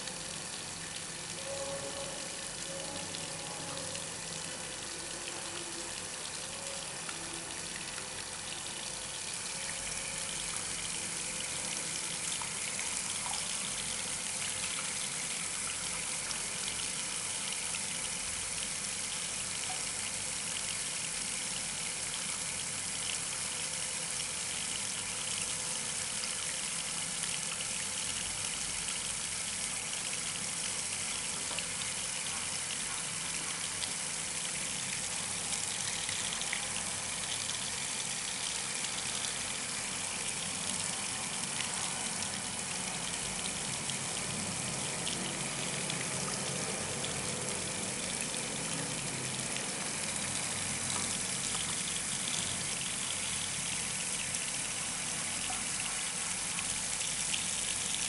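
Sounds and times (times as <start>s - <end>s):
water pouring and splashing: 0.0s - 58.0s.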